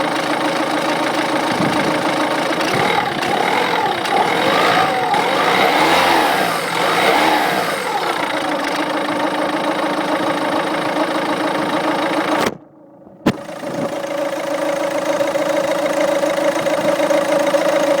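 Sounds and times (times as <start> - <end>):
diesel engine revving and idling: 0.0 - 12.6, 13.3 - 18.0.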